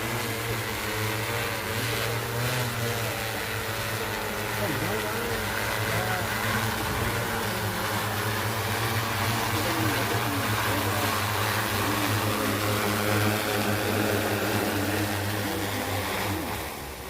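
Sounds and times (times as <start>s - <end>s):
drone rotors whirring: 0.0s - 17.0s.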